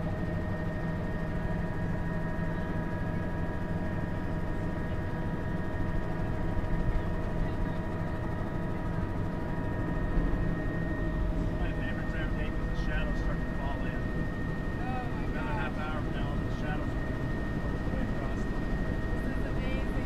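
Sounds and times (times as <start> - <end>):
helicopter engine whine: 0.0 - 20.0
helicopter rotor rumble: 0.0 - 20.0.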